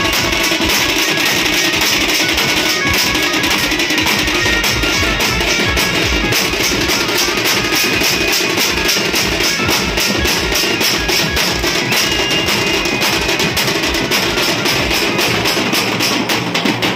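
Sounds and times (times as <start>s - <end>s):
group of drums beaten in rhythm: 0.0s - 16.9s.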